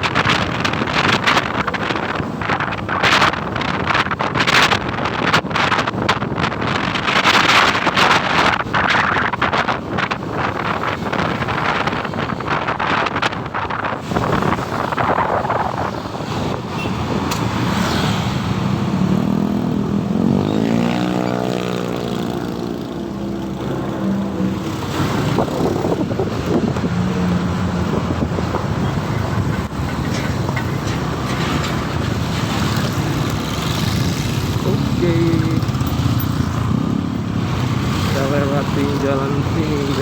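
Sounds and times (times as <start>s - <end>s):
road and wind noise: 0.0s - 40.0s.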